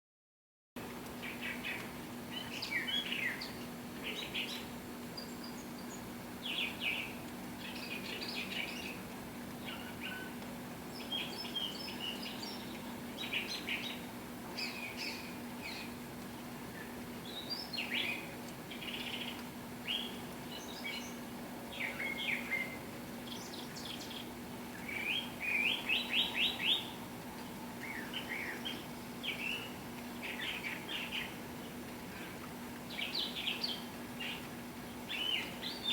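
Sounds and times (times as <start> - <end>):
birds chirping and singing: 1.2 - 9.0, 9.6 - 16.0, 16.8 - 27.0, 27.8 - 32.3, 32.9 - 35.9.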